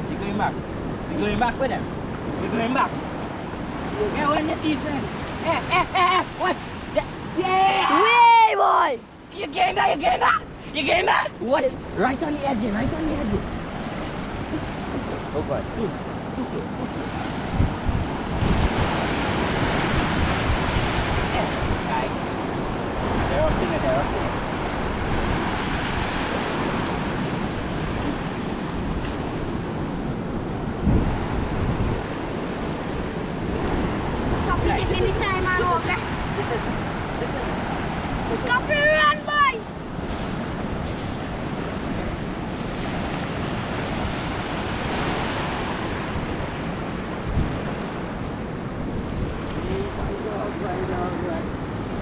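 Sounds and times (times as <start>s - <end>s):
waves breaking on beach: 0.0s - 52.0s
wind on microphone: 9.6s - 52.0s.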